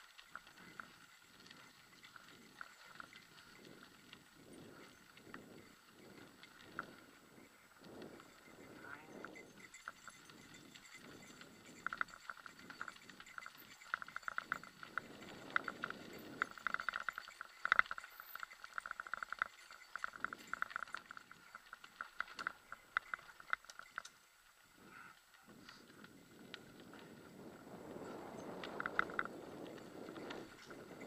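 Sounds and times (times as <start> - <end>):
bike rattling and clicking: 0.0 - 31.0
wind: 0.0 - 31.0.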